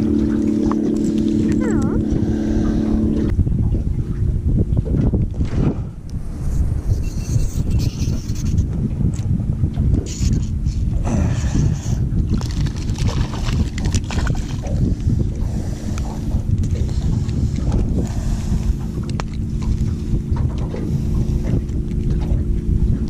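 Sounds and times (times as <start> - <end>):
constant low hum: 0.0 - 23.0
wind buffeting microphone: 0.0 - 23.0.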